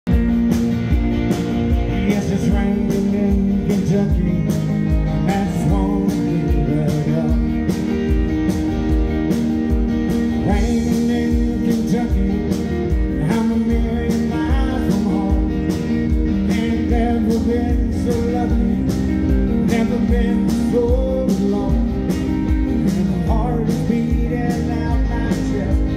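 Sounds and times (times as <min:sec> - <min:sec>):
electric guitars: 0:00.1 - 0:25.9
steady drum beat: 0:00.1 - 0:25.9.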